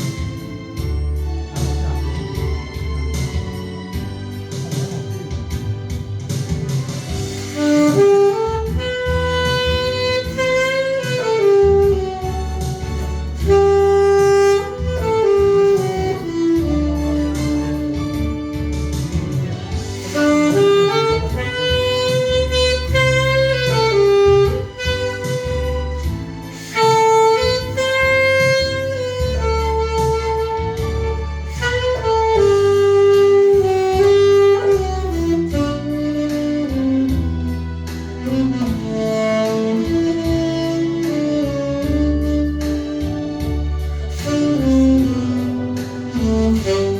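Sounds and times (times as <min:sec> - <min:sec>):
backing track with steady beat: 0:00.0 - 0:46.9
saxophone slow melody: 0:00.0 - 0:46.9.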